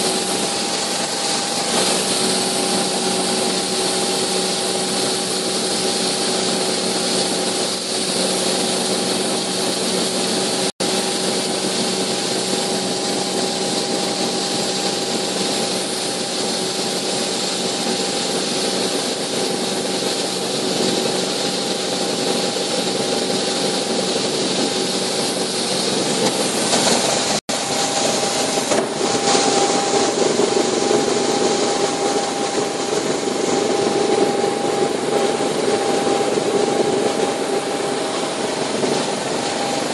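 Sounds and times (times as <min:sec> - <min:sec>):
drivetrain whine: 0:00.0 - 0:39.9
helicopter turbine and rotor: 0:00.0 - 0:39.9.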